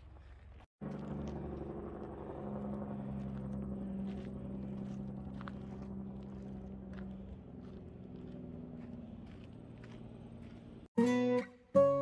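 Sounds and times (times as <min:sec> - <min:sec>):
low engine drone: 0:00.8 - 0:10.9.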